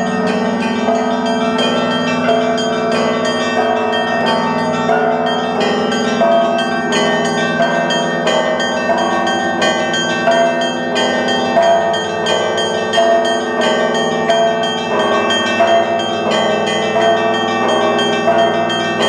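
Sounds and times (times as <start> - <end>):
low bell humming: 0.0 - 19.0
small church bells chiming: 0.0 - 19.0.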